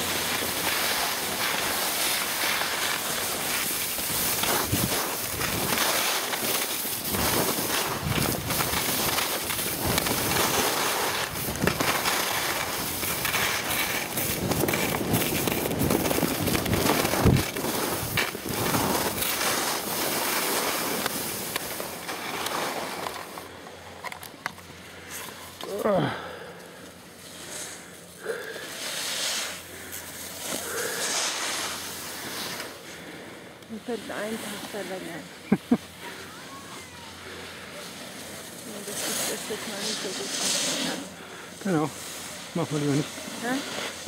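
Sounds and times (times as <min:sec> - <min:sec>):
skis scraping on snow: 0:00.0 - 0:23.6, 0:26.8 - 0:44.0.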